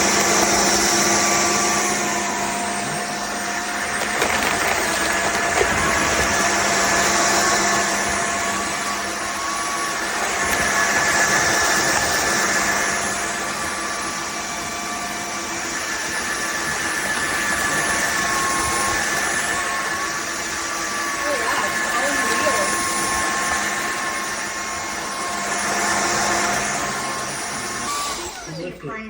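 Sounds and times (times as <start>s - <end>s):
vacuum mop running: 0.0s - 29.0s.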